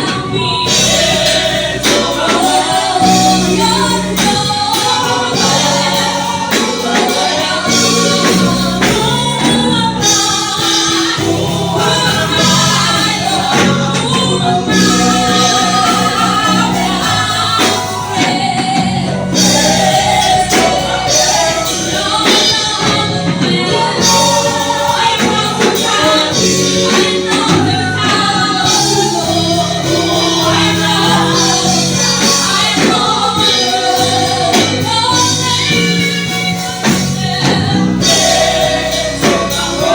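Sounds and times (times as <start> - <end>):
band playing: 0.0 - 39.9
bass line: 0.0 - 39.9
gospel choir singing: 0.0 - 39.9.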